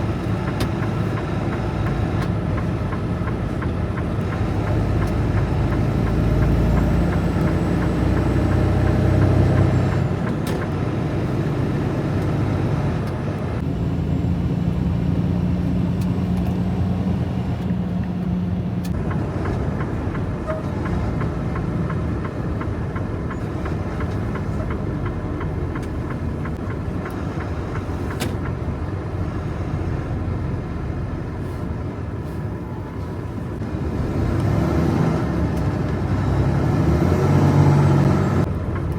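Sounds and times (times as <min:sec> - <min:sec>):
road noise: 0:00.0 - 0:38.9
truck engine drone: 0:00.0 - 0:38.9.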